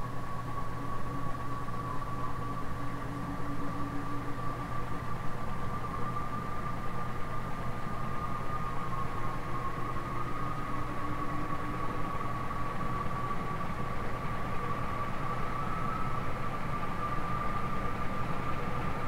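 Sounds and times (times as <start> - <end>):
ceiling fan motor hum: 0.0 - 19.0
high-pitched fan whine: 0.0 - 19.0.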